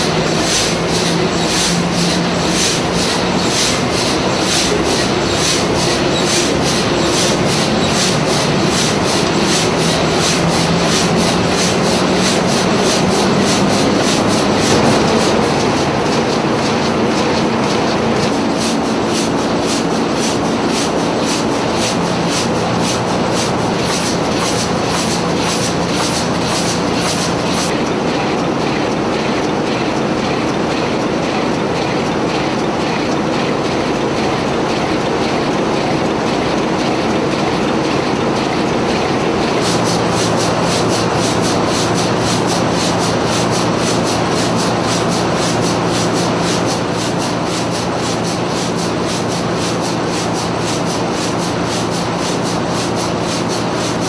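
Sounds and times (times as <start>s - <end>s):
diesel engine clattering: 0.0s - 54.0s.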